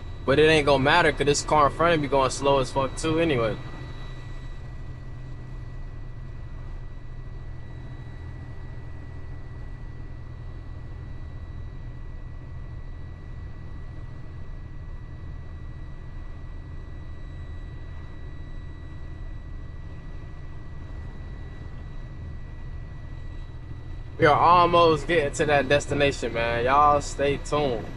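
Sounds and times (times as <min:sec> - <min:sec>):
diesel truck engine drone: 0:00.0 - 0:27.9
faint high-pitched whine: 0:00.0 - 0:27.9.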